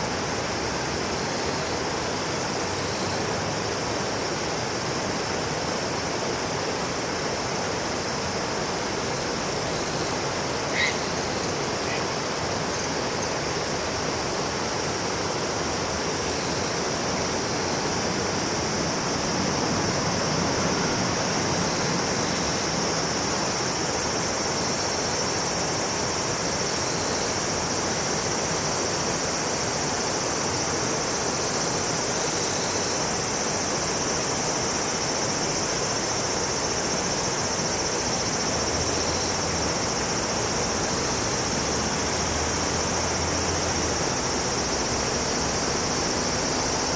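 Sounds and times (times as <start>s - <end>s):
insects droning: 0.0s - 46.9s
river water rushing: 0.0s - 46.9s.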